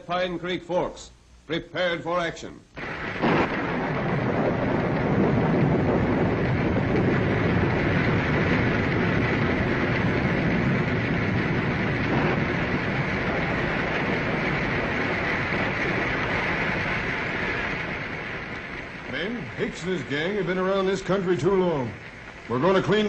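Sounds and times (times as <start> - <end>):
rain: 2.7 - 23.0
wind: 2.7 - 23.0.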